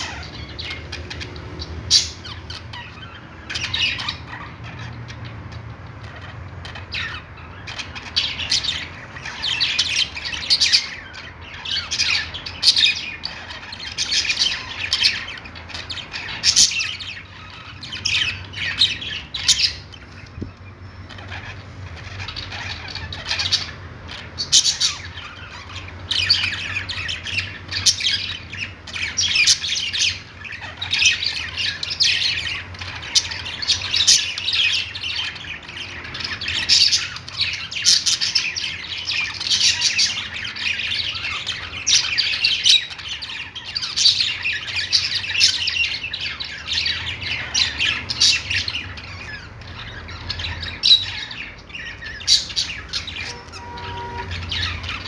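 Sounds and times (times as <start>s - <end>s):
budgerigars chirping and warbling: 0.0s - 55.0s
sharp bird calls: 0.0s - 55.0s.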